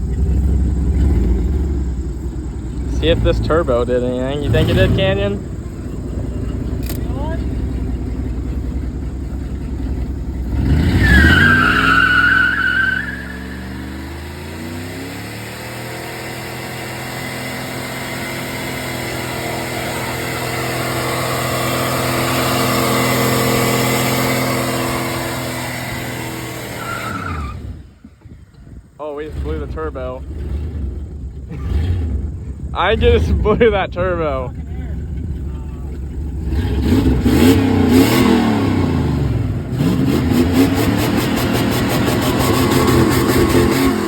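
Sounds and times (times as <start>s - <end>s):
pickup engine at full throttle: 0.0s - 44.0s.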